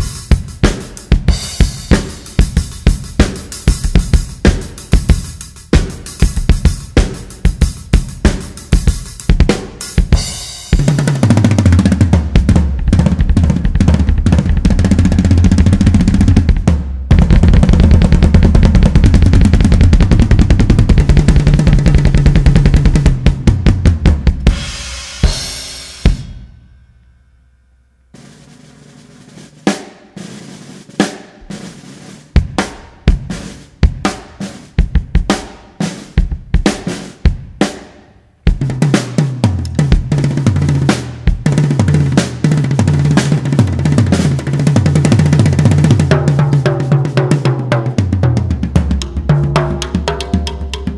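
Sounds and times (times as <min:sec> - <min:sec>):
drum kit playing: 0:00.0 - 0:50.9.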